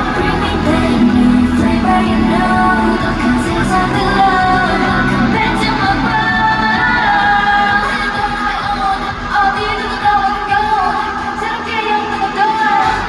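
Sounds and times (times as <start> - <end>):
pop backing track: 0.0 - 13.0
women singing live: 0.0 - 13.0.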